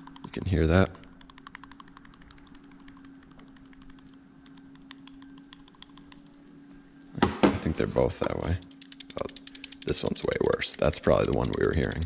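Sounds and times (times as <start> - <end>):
pulley bearing clicking: 0.0 - 6.3, 8.5 - 12.0.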